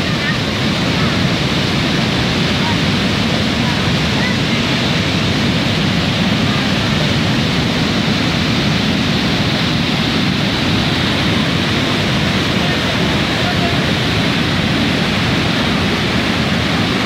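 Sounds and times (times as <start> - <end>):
flood water rushing over rocks: 0.0 - 17.0.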